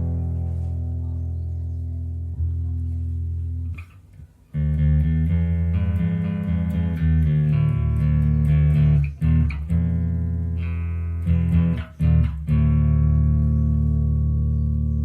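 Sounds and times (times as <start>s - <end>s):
electric bass guitar notes: 0.0s - 15.0s.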